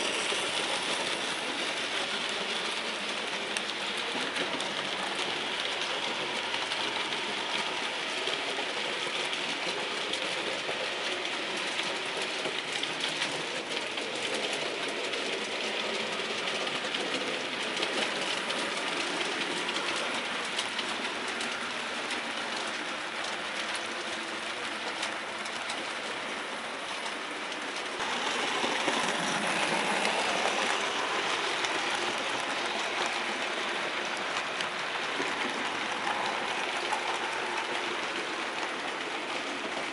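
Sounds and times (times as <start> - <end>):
model train running whir: 0.0 - 39.9
model train wheels clicking: 0.0 - 39.9.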